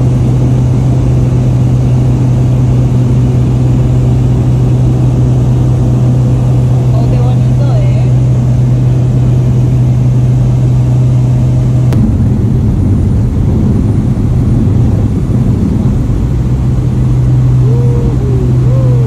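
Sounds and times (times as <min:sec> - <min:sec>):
aircraft engine and propeller droning: 0:00.0 - 0:19.0.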